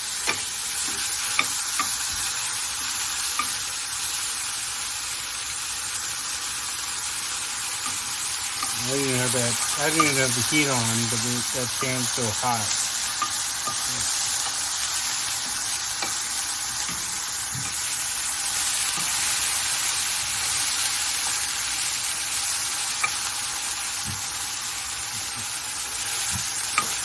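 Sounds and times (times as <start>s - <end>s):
chicken sizzling in a frying pan: 0.0s - 27.0s.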